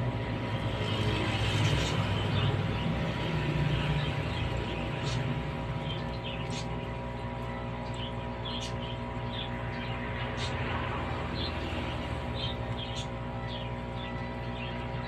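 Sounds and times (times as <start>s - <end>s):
aquarium air pump humming: 0.0s - 15.0s.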